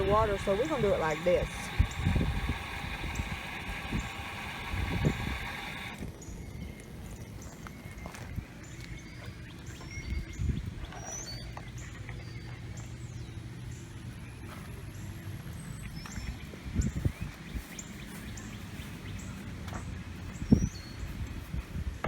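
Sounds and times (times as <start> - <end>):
bird chirping: 0.0 - 21.2.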